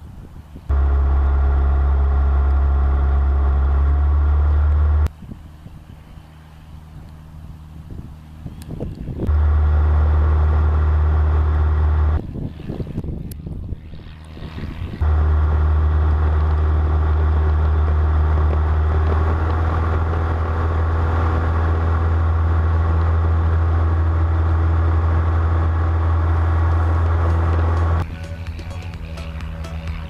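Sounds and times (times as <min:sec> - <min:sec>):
aircraft engine drone: 0:00.0 - 0:30.0.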